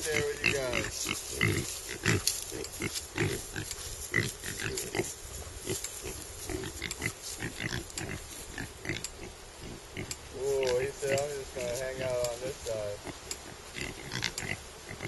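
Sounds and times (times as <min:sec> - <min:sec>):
piglets grunting: 0:00.0 - 0:15.0.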